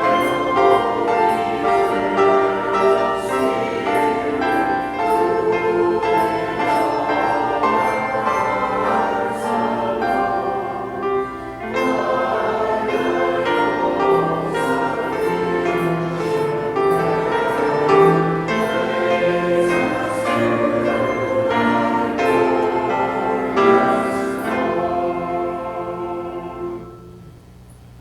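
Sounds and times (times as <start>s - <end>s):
church choir singing: 0.0s - 27.5s.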